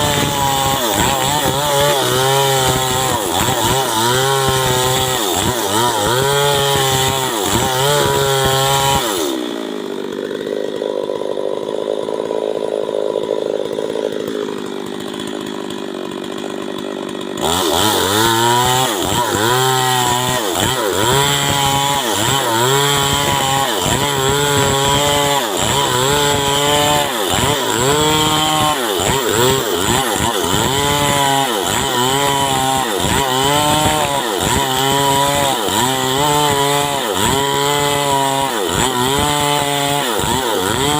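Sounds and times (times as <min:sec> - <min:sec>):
chainsaw running: 0:00.0 - 0:40.9.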